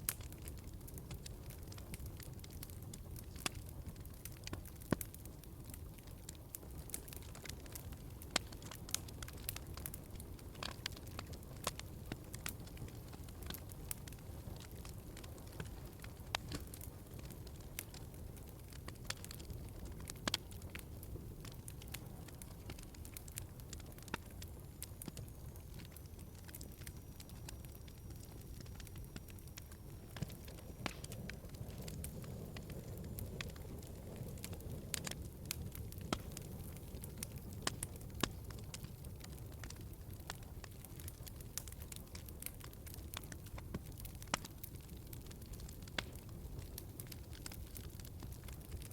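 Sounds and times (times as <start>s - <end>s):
low rumble of flame: 0.0s - 48.9s
wood fire crackling and popping: 0.0s - 48.9s.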